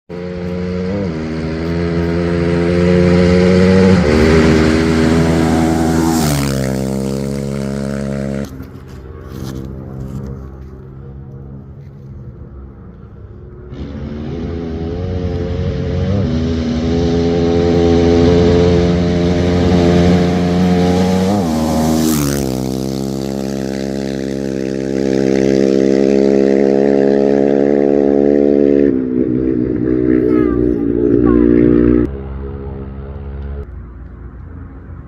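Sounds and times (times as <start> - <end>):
racing engine passing by: 0.1 - 33.7.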